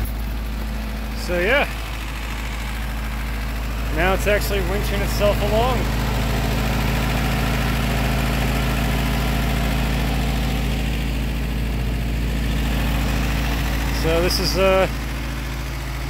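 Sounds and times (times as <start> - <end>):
jeep engine idling: 0.0 - 16.0.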